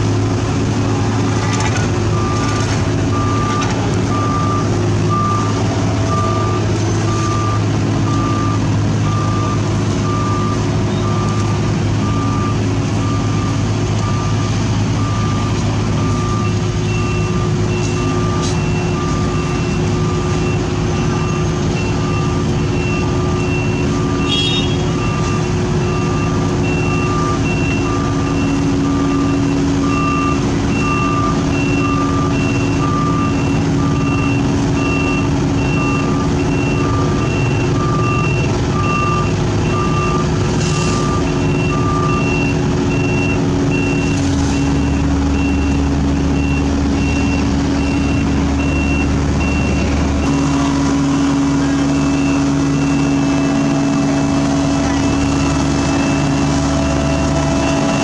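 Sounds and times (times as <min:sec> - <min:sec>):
deep engine rumble: 0:00.0 - 0:58.0
diesel engines running: 0:00.0 - 0:58.0
back-up alarms beeping: 0:02.1 - 0:58.0.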